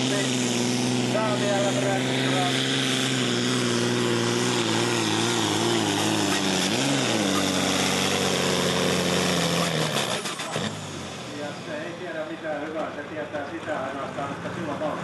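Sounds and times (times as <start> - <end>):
tractor diesel engine at full power: 0.0 - 15.0.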